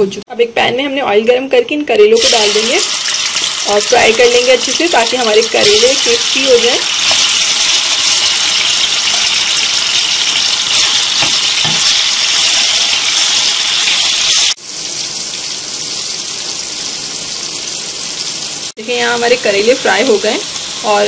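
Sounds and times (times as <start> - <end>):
vegetables sizzling in hot oil: 2.0 - 21.0.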